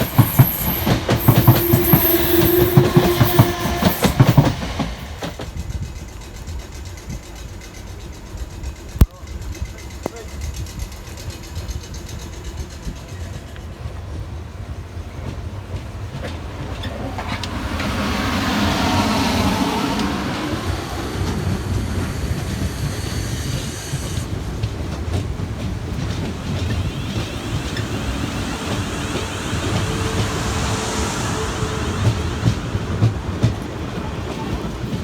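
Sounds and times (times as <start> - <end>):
train wheels clattering on rails: 0.0 - 35.0.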